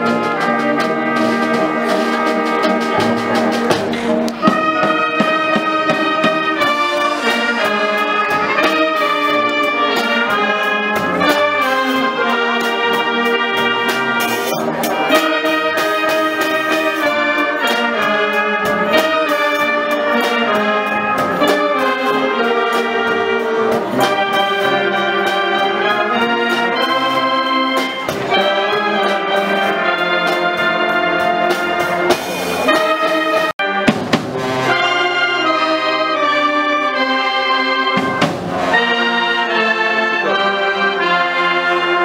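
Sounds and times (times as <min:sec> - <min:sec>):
drum kit: 0:00.0 - 0:42.0
trumpets and trombones: 0:00.0 - 0:42.0
wind band playing: 0:00.0 - 0:42.0.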